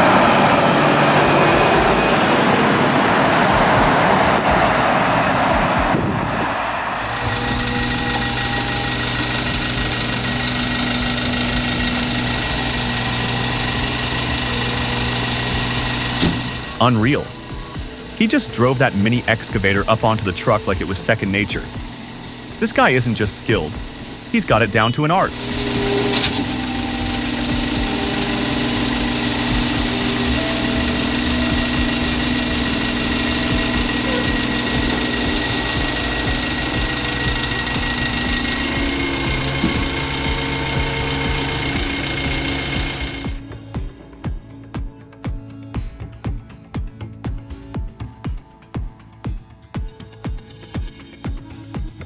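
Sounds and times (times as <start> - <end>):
excavator engine running: 0.0 - 48.6.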